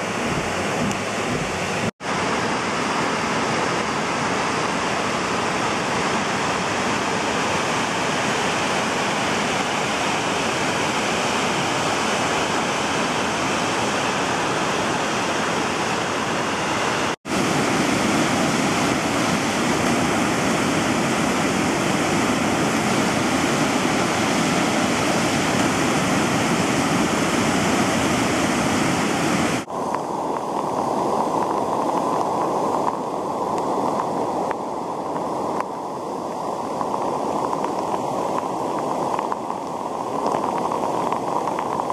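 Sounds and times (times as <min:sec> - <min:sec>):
creek rapids rushing: 0:00.0 - 0:41.9.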